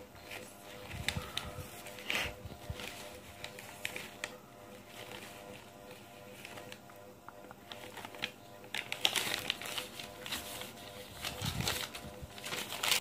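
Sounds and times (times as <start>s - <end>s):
crepe paper crinkling: 0.0s - 13.0s.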